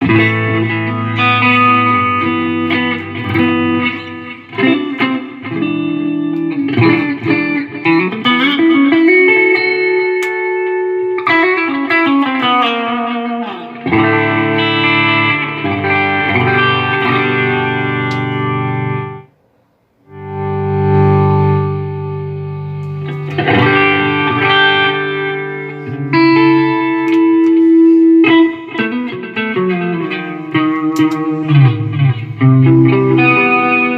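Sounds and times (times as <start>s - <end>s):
electric guitar chords with effects: 0.0s - 19.4s, 20.0s - 33.9s.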